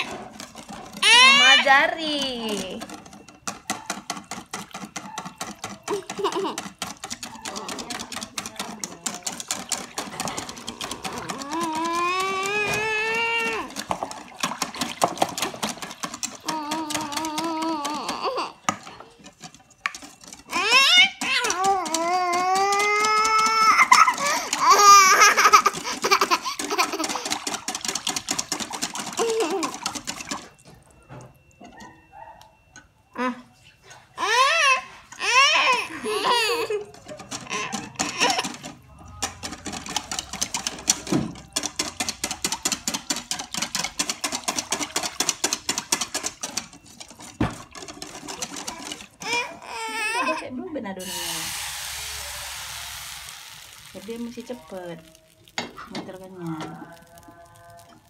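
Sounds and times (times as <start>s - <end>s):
whisk clicking in metal bowl: 0.0s - 32.9s, 34.3s - 58.0s.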